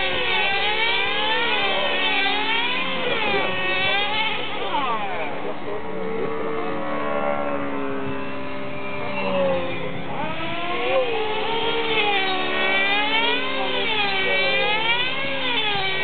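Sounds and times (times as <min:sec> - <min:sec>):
model helicopter motor and rotor whine: 0:00.0 - 0:16.0.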